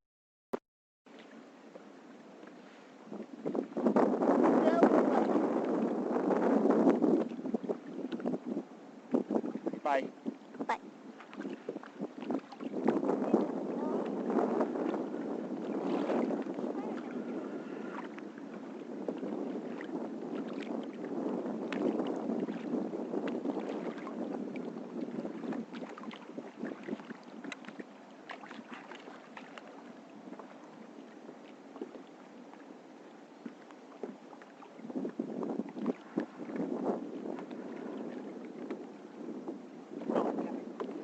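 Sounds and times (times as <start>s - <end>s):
water splashes: 1.1s - 39.3s, 39.9s - 41.0s
wind and water rushing: 1.1s - 41.0s.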